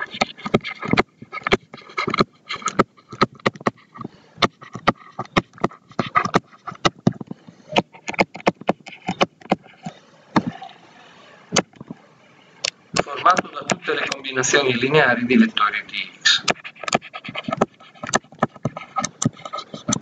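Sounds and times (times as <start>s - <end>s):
stylus tapping and scratching screen: 0.0s - 10.6s, 11.6s - 12.0s, 12.9s - 20.0s.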